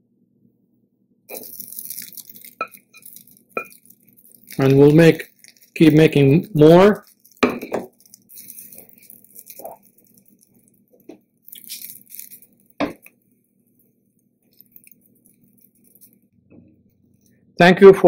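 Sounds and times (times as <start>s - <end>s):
faint steady hum: 0.0s - 18.0s
light crackling: 1.3s - 17.4s.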